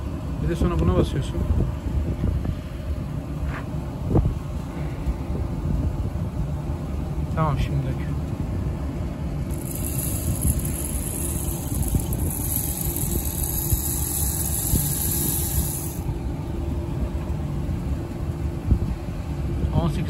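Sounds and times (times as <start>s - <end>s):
machinery rumbling: 0.0s - 20.0s.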